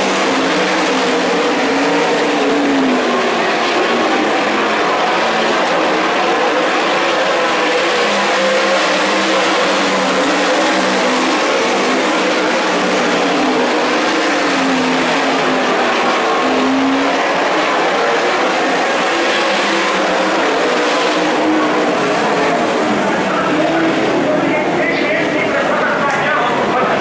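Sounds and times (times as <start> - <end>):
racing car engines: 0.0 - 27.0.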